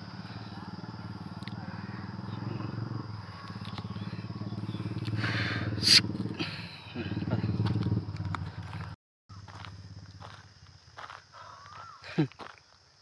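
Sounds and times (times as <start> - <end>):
motorcycle engine at low revs: 0.0 - 11.2.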